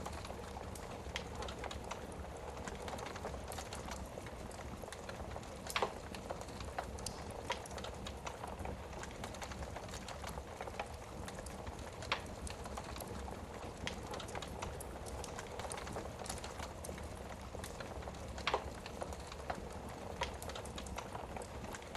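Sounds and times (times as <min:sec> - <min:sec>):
low fire rumble: 0:00.0 - 0:21.9
wood fire crackling: 0:00.0 - 0:21.9.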